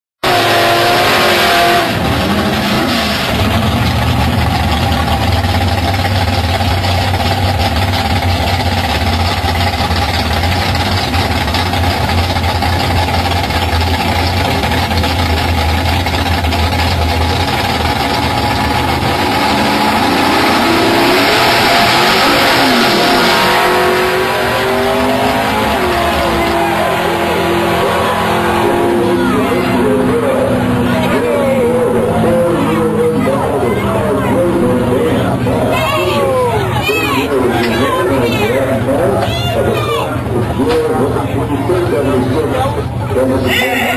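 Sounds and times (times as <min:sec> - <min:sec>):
race car engines revving: 0:00.2 - 0:43.9.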